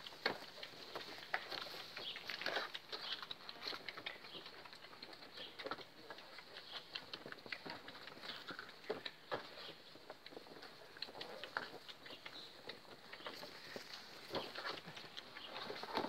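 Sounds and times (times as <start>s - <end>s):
puppies' paws clicking and scuffing: 0.0s - 16.0s.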